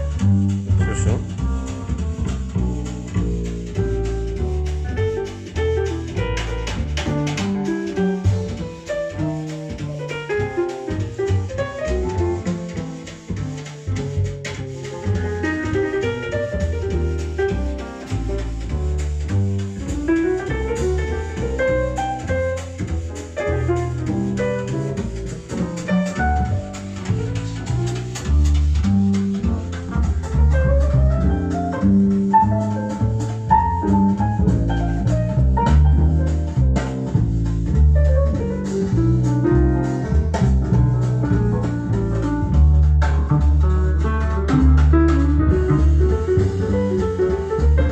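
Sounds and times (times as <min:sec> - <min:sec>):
deep bass line: 0:00.0 - 0:47.9
jazz through speakers: 0:00.0 - 0:47.9
sharp beats: 0:00.2 - 0:47.9.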